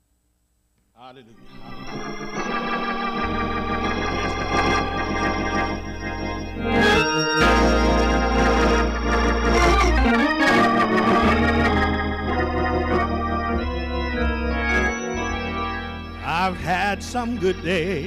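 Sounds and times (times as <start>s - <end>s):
organ playing sustained chords: 1.0s - 18.0s.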